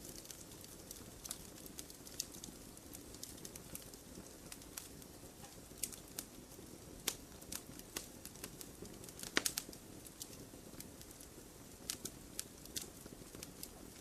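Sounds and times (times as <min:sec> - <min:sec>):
campfire crackling: 0:00.0 - 0:14.0
low rush of flames: 0:00.0 - 0:14.0.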